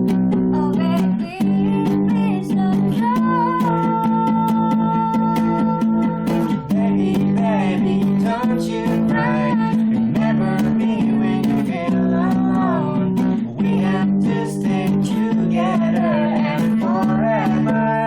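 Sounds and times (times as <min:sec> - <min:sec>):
strummed acoustic guitar: 0:00.0 - 0:18.0
person singing: 0:00.4 - 0:18.0.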